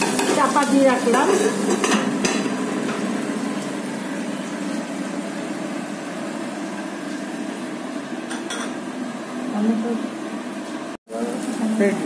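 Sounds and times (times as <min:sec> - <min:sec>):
gas stove hum: 0:00.0 - 0:12.0
onions frying hiss: 0:00.0 - 0:12.0.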